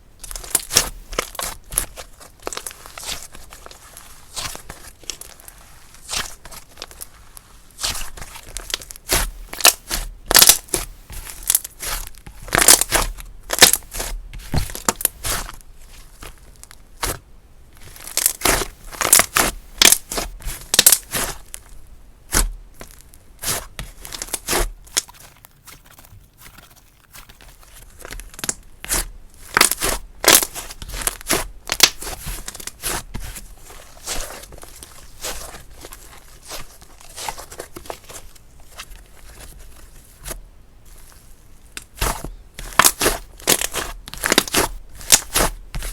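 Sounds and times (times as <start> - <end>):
hands squishing slime: 0.2 - 17.2, 17.8 - 45.9.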